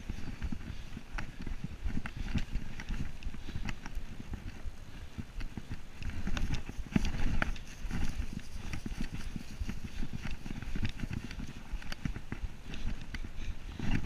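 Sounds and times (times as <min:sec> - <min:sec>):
bike chain and frame rattling: 0:00.0 - 0:13.9
wind on microphone: 0:00.0 - 0:14.0.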